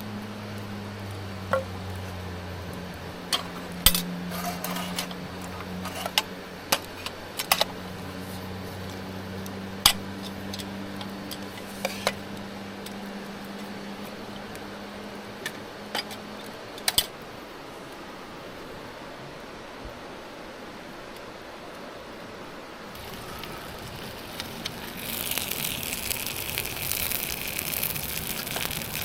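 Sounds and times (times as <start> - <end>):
steady low hum: 0.0 - 21.1, 21.7 - 29.0.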